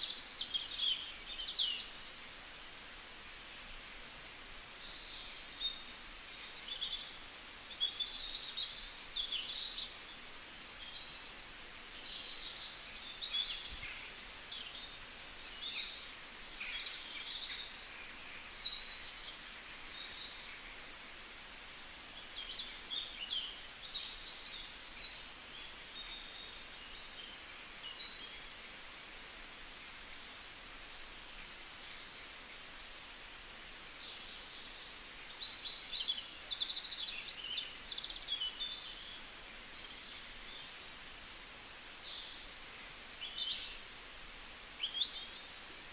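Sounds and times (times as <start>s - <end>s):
faint steady hiss: 0.0s - 45.9s
small birds chirping: 0.0s - 45.9s.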